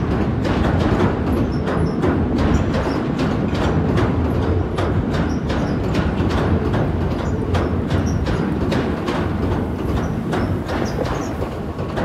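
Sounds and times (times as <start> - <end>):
train rumbling over bridge: 0.0 - 12.0
wheels clacking over rail joints: 0.0 - 12.0.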